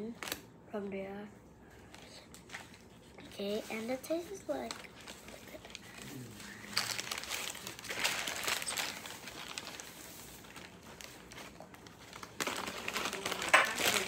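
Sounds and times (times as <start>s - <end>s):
paper wrapper crinkling: 2.0s - 14.0s.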